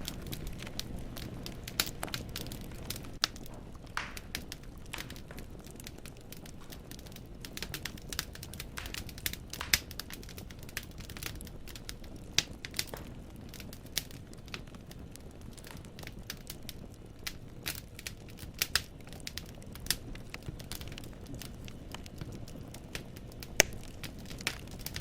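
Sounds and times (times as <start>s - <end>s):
logs crackling and popping: 0.0s - 25.0s
rush of flame: 0.0s - 25.0s.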